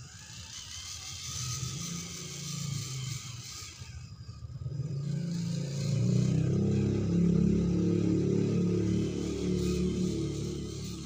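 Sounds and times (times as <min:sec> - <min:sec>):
toy car motor revving: 0:00.0 - 0:11.0.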